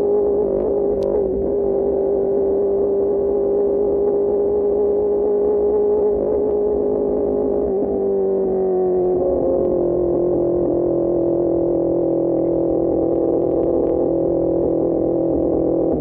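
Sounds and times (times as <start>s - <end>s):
motorcycle engine at steady revs: 0.0s - 16.0s.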